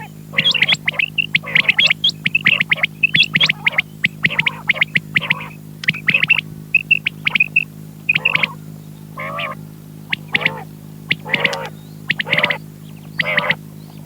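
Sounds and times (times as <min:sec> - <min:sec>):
quail calling: 0:00.0 - 0:14.0
steady electrical hum: 0:00.0 - 0:14.0.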